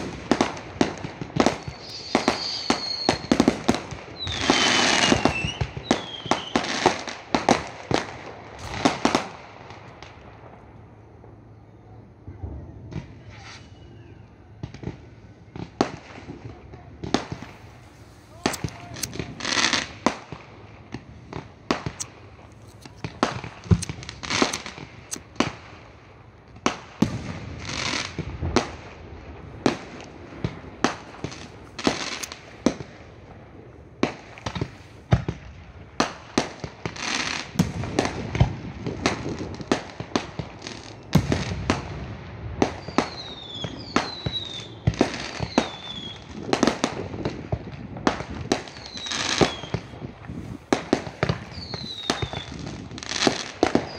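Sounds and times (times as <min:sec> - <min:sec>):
fireworks bangs and crackling: 0:00.0 - 0:11.4, 0:12.1 - 0:53.9
fireworks whistling downward: 0:00.0 - 0:33.1, 0:34.0 - 0:53.9.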